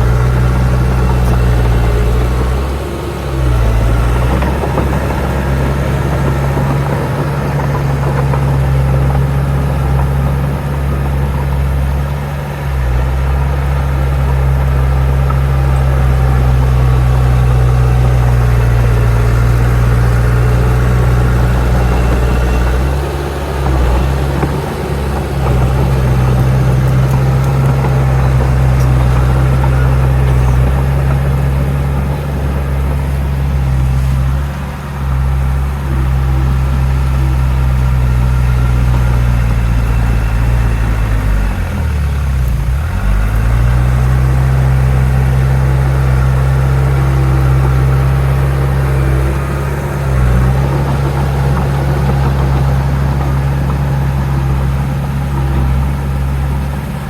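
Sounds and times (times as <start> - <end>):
heavy machine diesel engine droning: 0.0 - 57.0.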